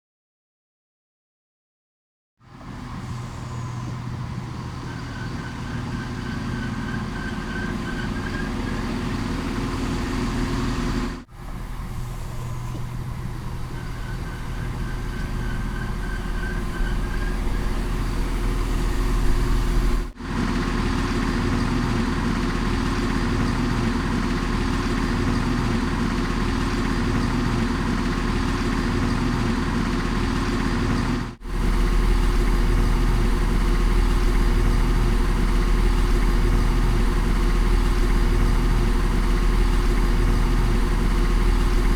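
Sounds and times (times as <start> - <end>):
train engine rumbling: 2.5 - 41.9.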